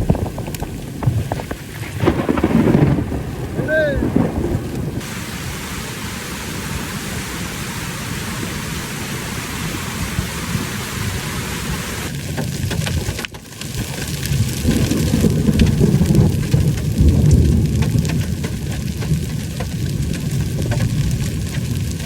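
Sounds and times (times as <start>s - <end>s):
rain and hail falling: 0.0s - 22.0s.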